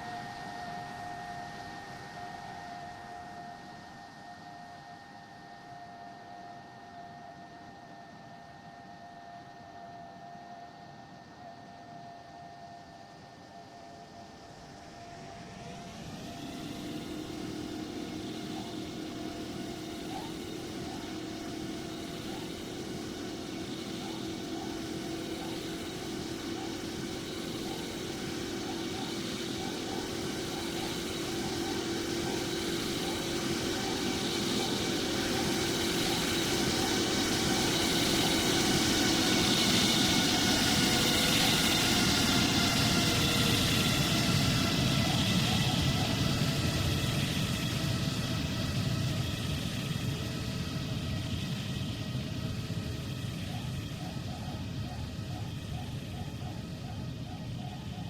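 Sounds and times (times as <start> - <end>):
jet engines whining: 11.3 - 58.0.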